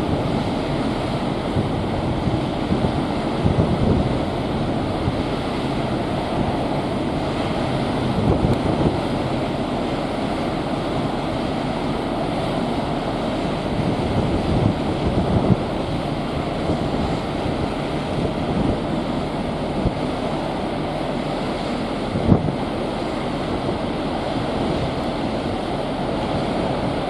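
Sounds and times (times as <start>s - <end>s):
wind rushing against microphone: 0.0s - 27.0s.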